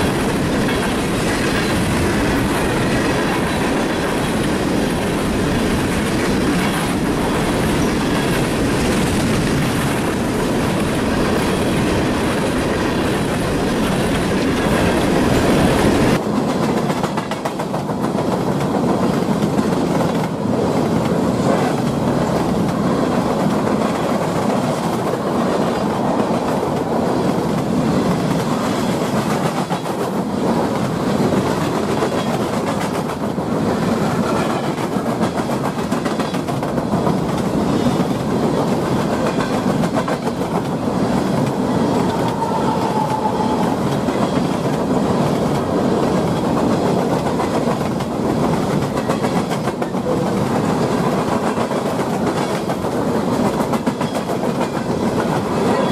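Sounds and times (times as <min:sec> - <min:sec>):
freight train rumble and rattle: 0:00.0 - 0:55.9.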